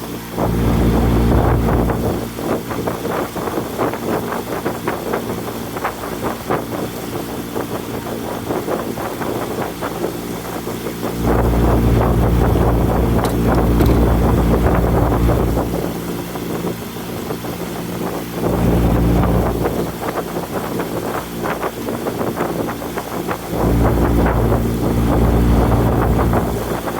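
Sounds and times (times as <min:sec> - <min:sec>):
motorboat engine running: 0:00.0 - 0:26.9
wind rumbling on microphone: 0:00.0 - 0:26.9.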